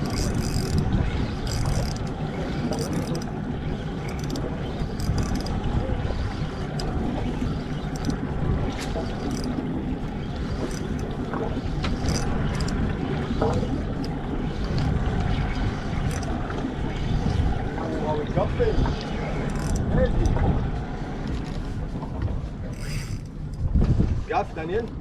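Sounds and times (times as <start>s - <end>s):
wind and sea water rumbling: 0.0s - 25.0s.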